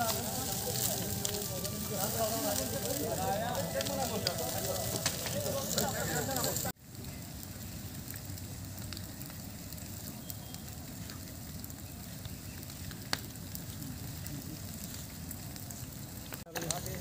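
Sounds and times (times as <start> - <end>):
fire burning: 0.0 - 17.0
fire crackling: 0.0 - 17.0.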